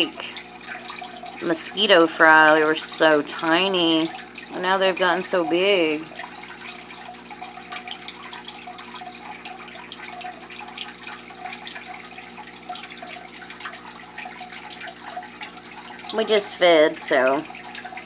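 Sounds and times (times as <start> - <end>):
aquarium filter water bubbling: 0.0 - 18.0
low steady hum: 0.0 - 18.0.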